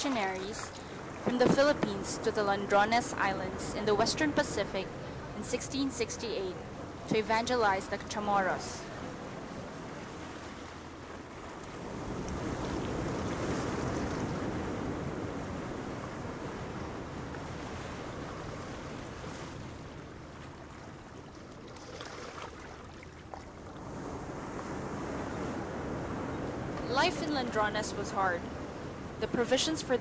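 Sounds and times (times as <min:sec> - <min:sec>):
sea waves washing: 0:00.0 - 0:30.0.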